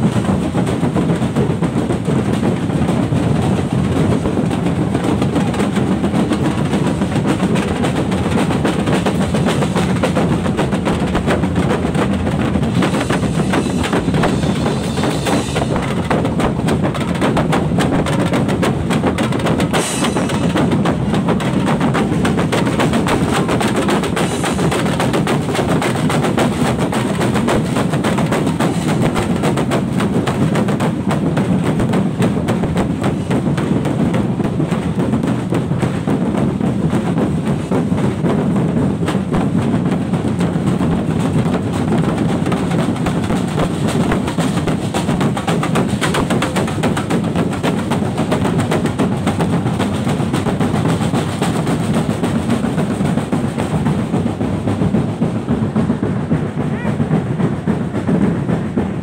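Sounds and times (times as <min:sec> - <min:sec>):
street drum band drumming: 0:00.0 - 0:59.0.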